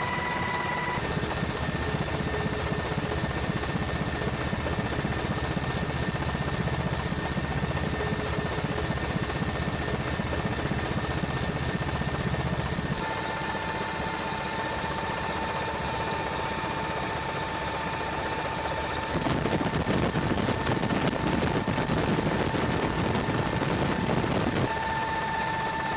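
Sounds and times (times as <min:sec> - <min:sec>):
helicopter rotor and engine: 0:00.0 - 0:25.9
high turbine whine: 0:00.0 - 0:25.9.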